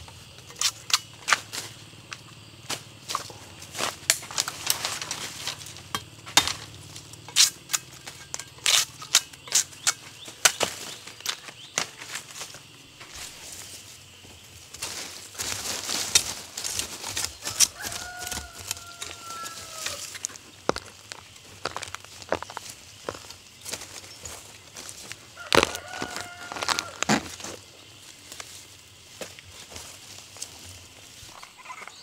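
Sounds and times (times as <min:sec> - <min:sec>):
dry leaves and twigs crackling: 0:00.0 - 0:32.0
rustle of leaves: 0:00.5 - 0:08.9, 0:10.1 - 0:32.0.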